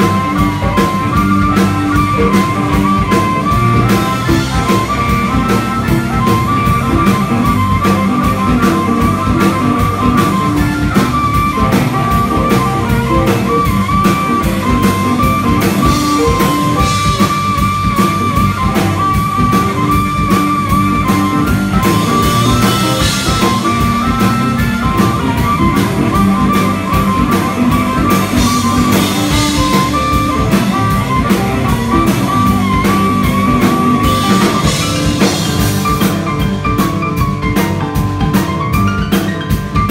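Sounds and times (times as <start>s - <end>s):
blues-rock band playing: 0.0s - 39.9s
harmonica lead line: 0.0s - 39.9s.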